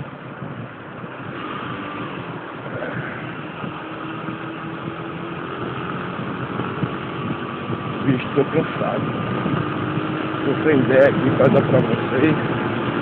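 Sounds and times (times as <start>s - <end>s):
motorcycle engine running: 0.0s - 13.0s
road noise: 0.0s - 13.0s
wind noise: 0.0s - 13.0s.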